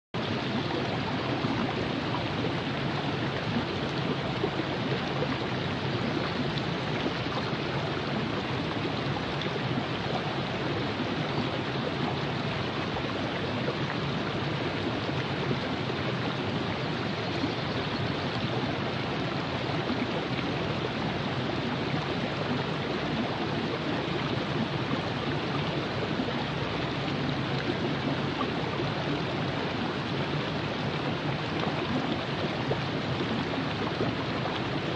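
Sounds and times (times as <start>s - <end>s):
water rushing over rocks: 0.2s - 34.9s.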